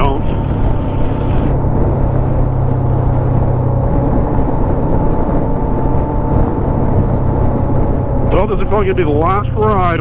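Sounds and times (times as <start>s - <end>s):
loud wind rush: 0.0s - 10.0s
motorcycle engine cruising: 0.0s - 10.0s.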